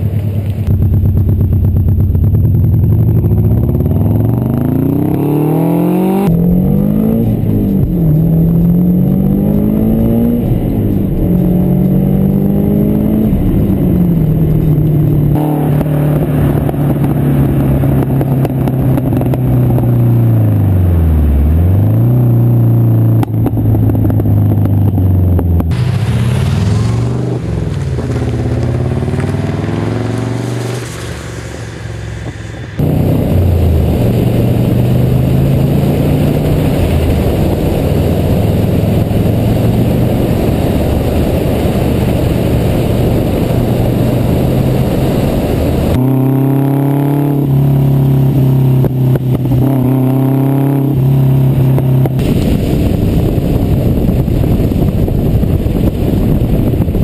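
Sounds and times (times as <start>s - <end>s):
car engine revving: 0.0s - 57.0s
wind and road noise: 0.0s - 57.0s.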